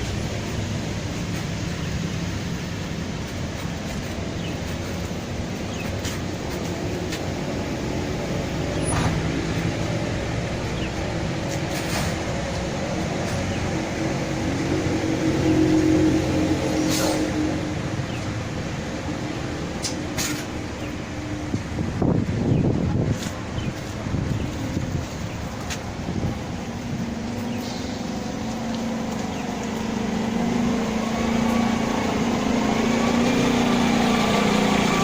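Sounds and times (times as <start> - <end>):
bus engine running: 0.0 - 35.0
road traffic noise: 0.0 - 35.0.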